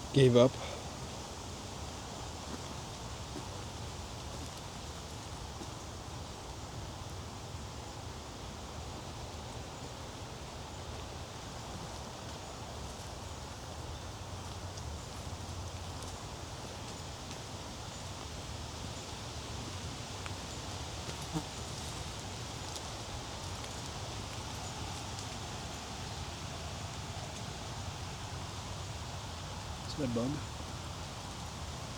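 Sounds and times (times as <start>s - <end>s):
leaves and brush rustling: 0.0s - 31.9s
steady outdoor hiss: 0.0s - 31.9s.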